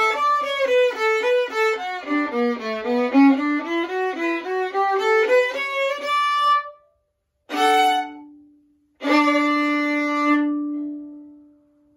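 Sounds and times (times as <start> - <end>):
solo violin bowed: 0.0 - 6.8, 7.5 - 11.3.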